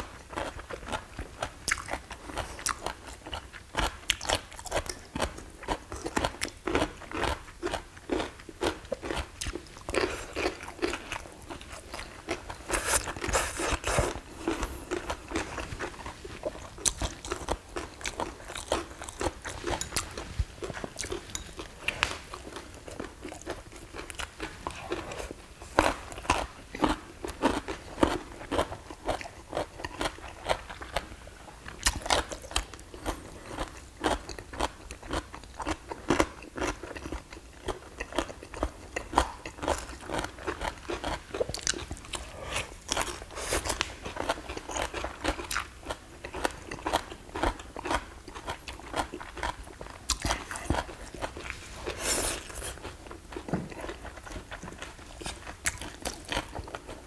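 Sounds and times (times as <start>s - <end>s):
people chewing and crunching food: 0.0s - 57.0s.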